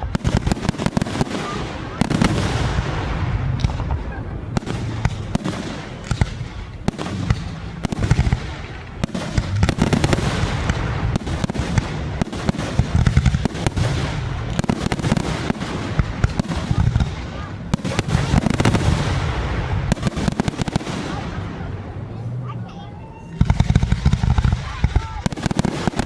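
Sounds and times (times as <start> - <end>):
fireworks cracking and popping: 0.0 - 26.0
low rumble of fireworks booms: 0.0 - 26.0.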